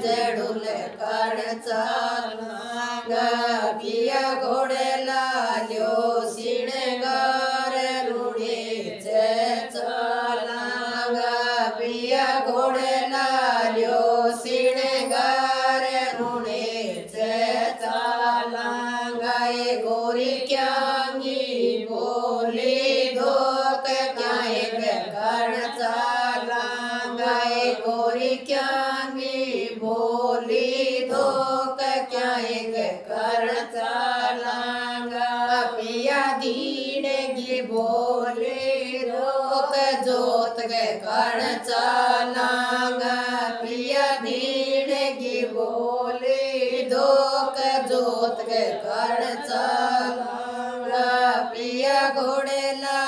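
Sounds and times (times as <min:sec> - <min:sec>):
women singing together: 0:00.0 - 0:53.0.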